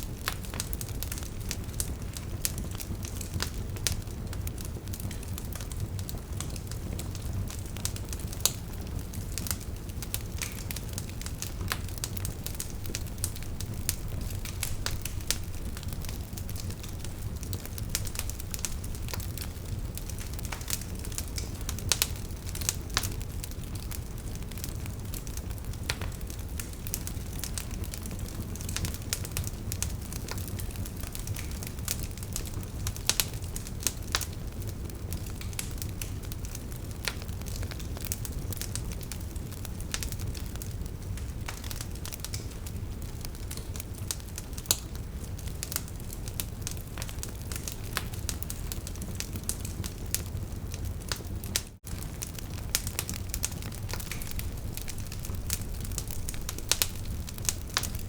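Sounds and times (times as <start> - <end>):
logs crackling and popping: 0.0 - 58.0
wood fire burning: 0.0 - 58.0.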